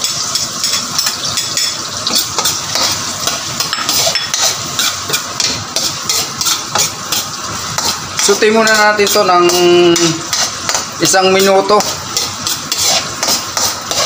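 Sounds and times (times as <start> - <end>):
metal spoon scraping a pan: 0.0 - 14.0
onion and garlic sizzling in oil: 0.0 - 14.0.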